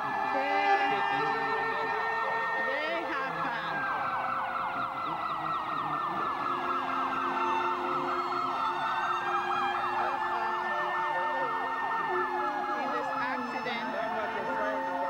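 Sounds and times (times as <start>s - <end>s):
electronic siren warbling: 0.0s - 15.0s.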